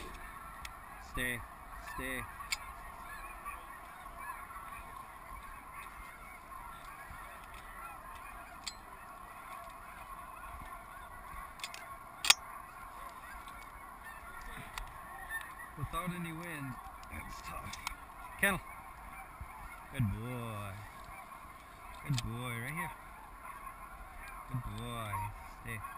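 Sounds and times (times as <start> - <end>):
geese honking: 0.0 - 25.9.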